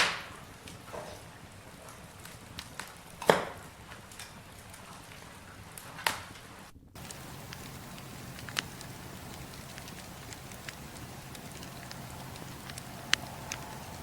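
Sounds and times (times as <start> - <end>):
campfire crackling and hissing: 0.0 - 14.0.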